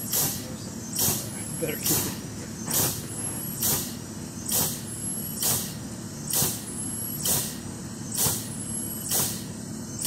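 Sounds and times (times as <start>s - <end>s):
air pump exhaust hiss: 0.0s - 10.0s.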